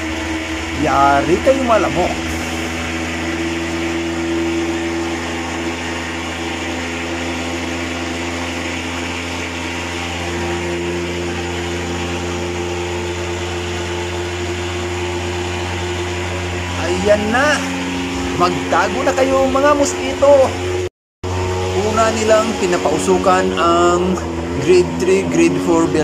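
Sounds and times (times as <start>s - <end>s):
fogging machine droning: 0.0s - 26.0s.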